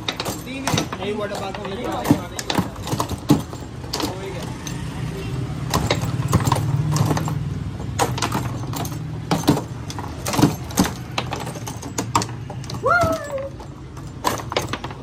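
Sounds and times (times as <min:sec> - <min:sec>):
steel rods clacking: 0:00.0 - 0:15.0.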